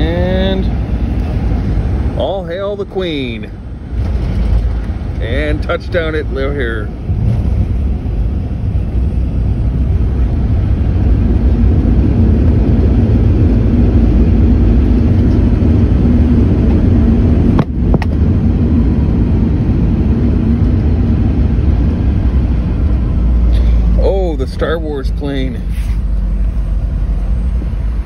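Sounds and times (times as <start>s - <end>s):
jet engines and wheels rumbling: 0.0s - 28.0s.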